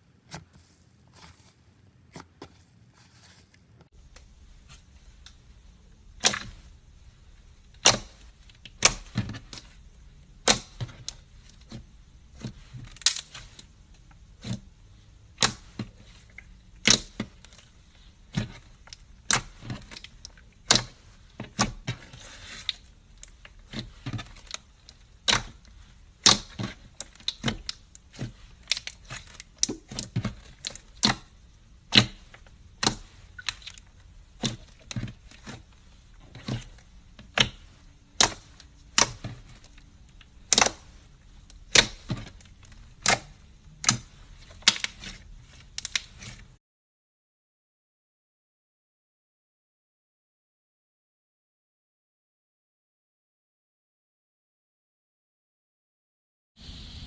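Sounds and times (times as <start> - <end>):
soft squishing rustle: 0.0 - 46.6.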